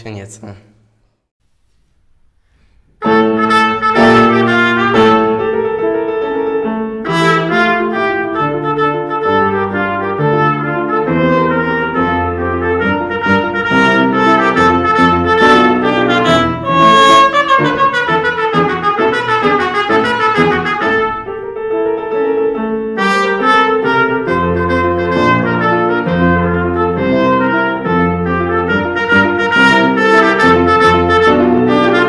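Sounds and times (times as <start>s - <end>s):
trumpet playing: 3.0s - 5.8s, 7.0s - 21.5s, 23.0s - 32.0s
grand piano accompaniment: 3.0s - 32.0s.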